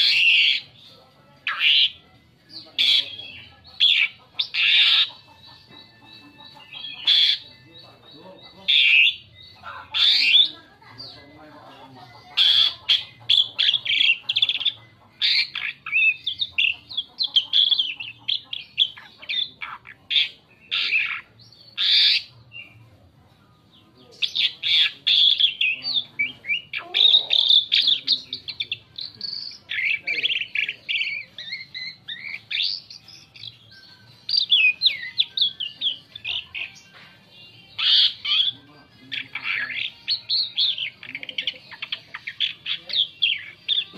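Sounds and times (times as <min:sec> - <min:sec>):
starling singing: 0:00.0 - 0:23.0, 0:23.6 - 0:43.9.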